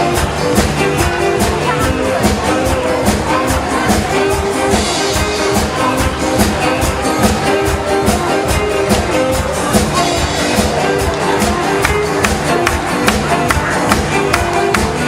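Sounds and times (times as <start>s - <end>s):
upbeat music with steady beat: 0.0s - 15.0s.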